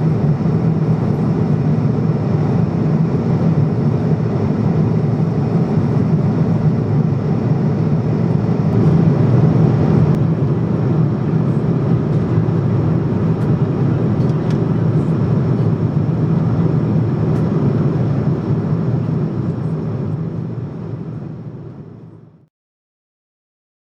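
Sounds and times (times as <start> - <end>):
airplane cabin engine rumble: 0.0 - 22.5.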